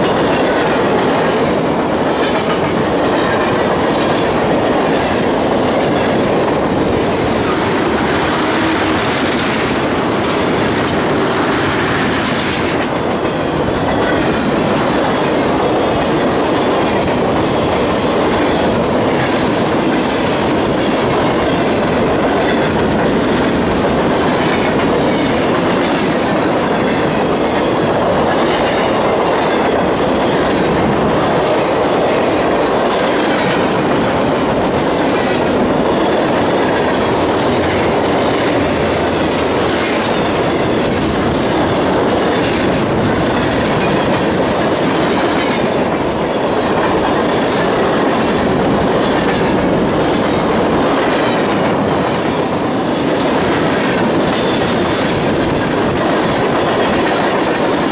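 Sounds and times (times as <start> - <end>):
train wheels clacking on rails: 0.0 - 57.9.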